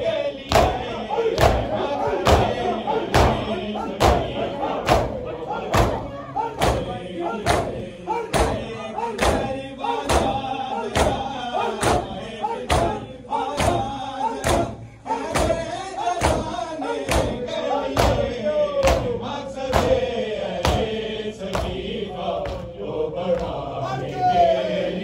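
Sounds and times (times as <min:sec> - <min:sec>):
men chanting: 0:00.0 - 0:25.0.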